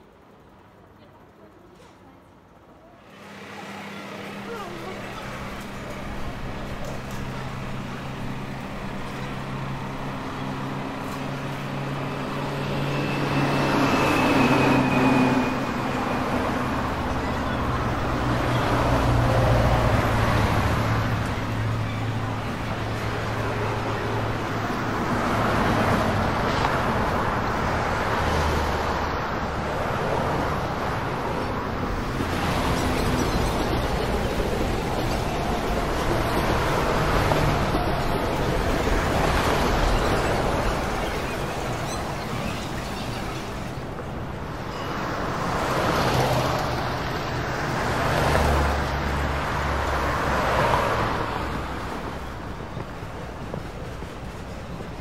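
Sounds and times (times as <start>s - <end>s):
crowd moving about: 0.4s - 13.4s, 14.4s - 27.9s, 30.0s - 55.0s.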